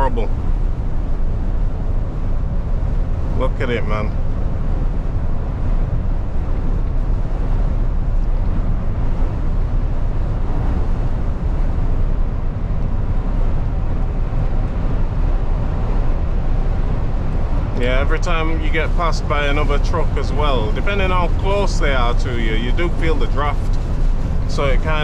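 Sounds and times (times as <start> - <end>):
diesel engine drone: 0.0 - 25.0
wind against lorry cab: 0.0 - 25.0.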